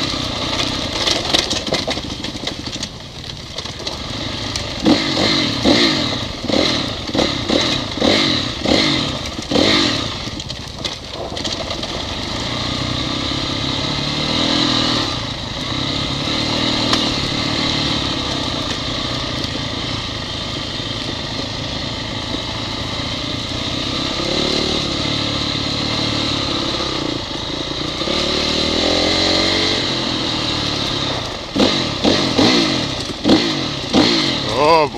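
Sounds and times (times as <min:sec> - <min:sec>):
dirt bike engine revving: 0:03.9 - 0:10.6, 0:11.4 - 0:34.9.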